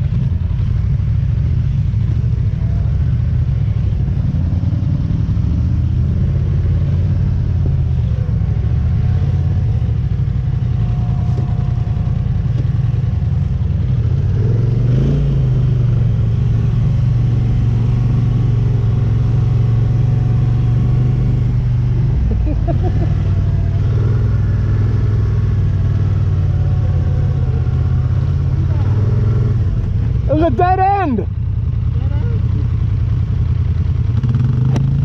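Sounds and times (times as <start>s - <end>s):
atv engine droning: 0.0s - 35.0s.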